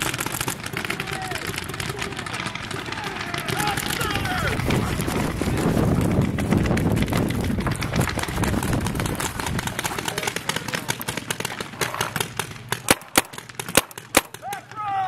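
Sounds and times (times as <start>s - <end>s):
footsteps running: 0.0s - 12.9s.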